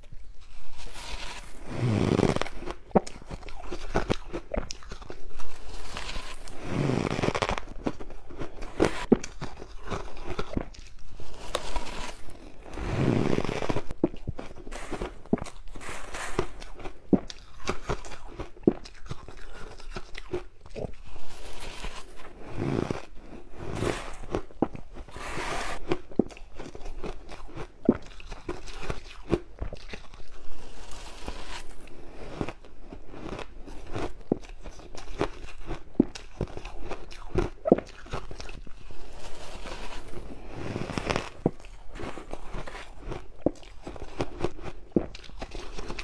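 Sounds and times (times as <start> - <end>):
crunching and chewing ice: 0.0 - 46.0.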